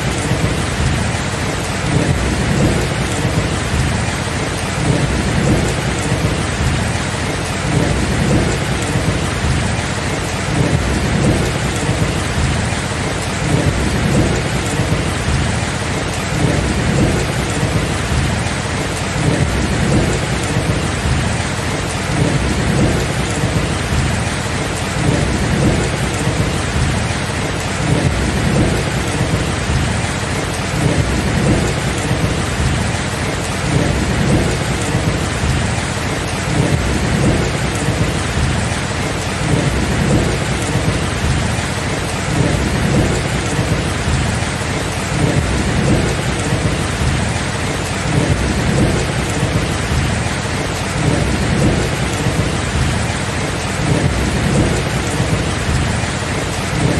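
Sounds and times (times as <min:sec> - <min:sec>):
rain hissing: 0:00.0 - 0:56.9
thunder rumbling: 0:00.0 - 0:56.9.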